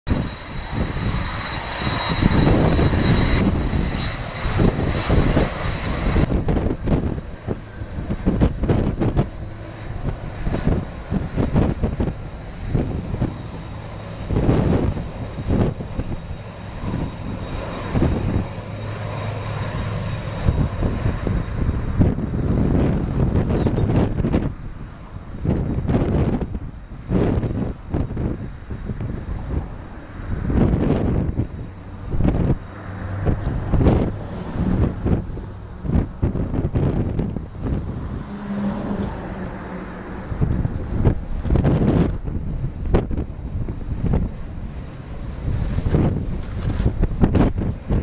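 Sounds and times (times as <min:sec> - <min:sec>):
jet engines running: 0:00.1 - 0:48.0
steady high whine: 0:00.1 - 0:48.0
wind buffeting microphone: 0:00.1 - 0:48.0.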